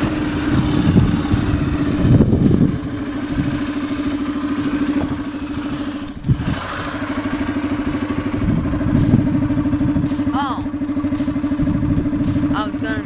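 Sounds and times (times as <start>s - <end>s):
atv engine idling: 0.0s - 13.0s
engine knock: 0.0s - 13.0s.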